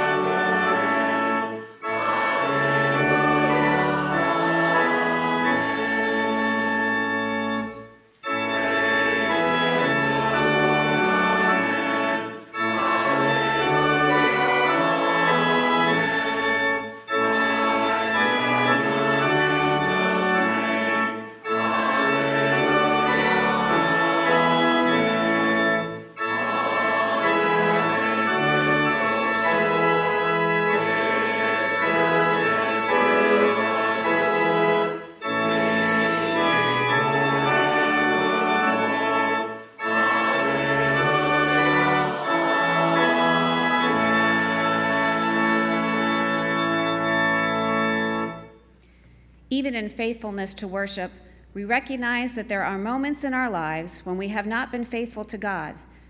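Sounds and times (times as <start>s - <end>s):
organ playing sustained chords: 0.0s - 56.0s.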